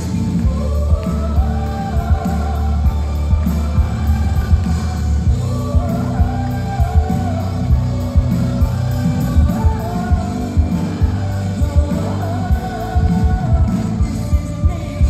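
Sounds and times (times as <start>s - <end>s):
backing music with heavy bass: 0.0s - 15.0s.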